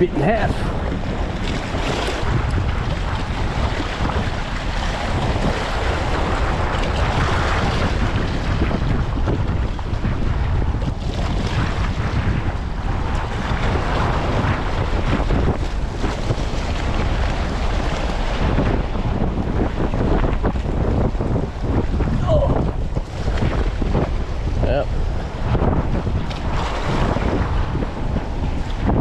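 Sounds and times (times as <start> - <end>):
wind blowing across microphone: 0.0 - 29.0.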